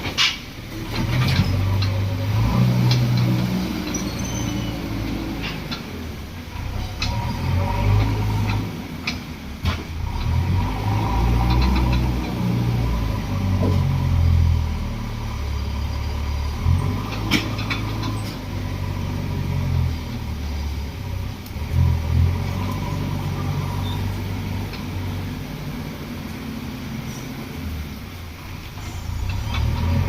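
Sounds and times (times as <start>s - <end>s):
diesel engines working: 0.0s - 30.0s.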